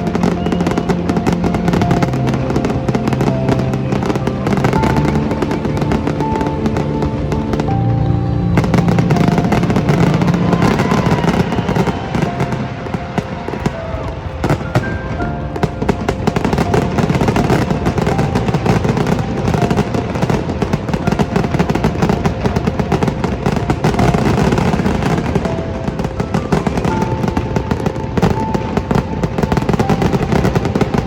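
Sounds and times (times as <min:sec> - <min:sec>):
fireworks bangs and crackling: 0:00.0 - 0:31.0
music playing: 0:00.0 - 0:31.0.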